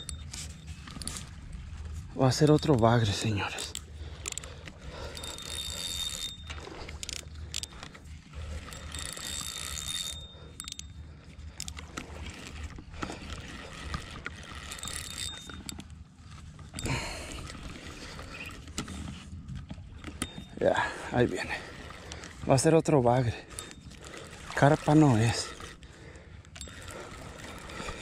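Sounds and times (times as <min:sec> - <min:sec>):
spinning reel whirring: 0:00.0 - 0:28.0.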